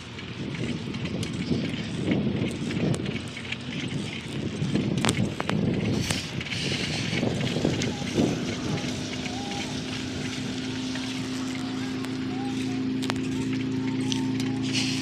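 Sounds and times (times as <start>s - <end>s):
road noise: 0.0s - 15.0s
sharp clicks and rattles: 0.0s - 15.0s
wind buffeting microphone: 0.0s - 15.0s.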